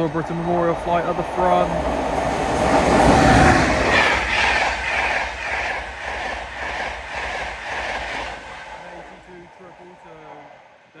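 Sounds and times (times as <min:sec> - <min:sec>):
train wheels clicking over rail joints: 0:00.0 - 0:10.2
passing train rushing noise: 0:00.0 - 0:11.0.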